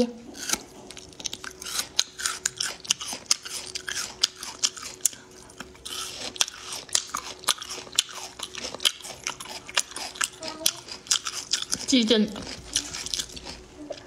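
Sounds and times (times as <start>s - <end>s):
faint steady hum: 0.0s - 14.0s
close chewing and crunching: 0.2s - 14.0s.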